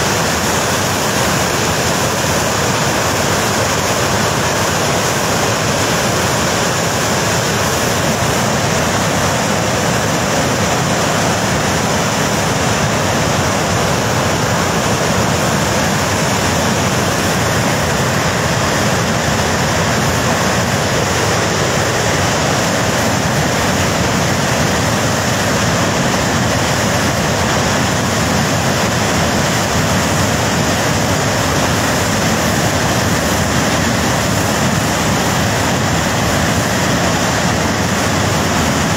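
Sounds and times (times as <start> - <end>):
muddy river torrent rushing: 0.0 - 38.9.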